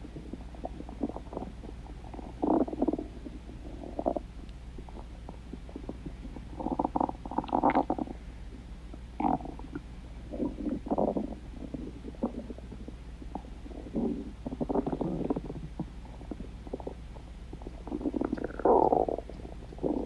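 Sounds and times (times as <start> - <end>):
stomach growling and gurgling: 0.0 - 8.2, 9.2 - 20.0.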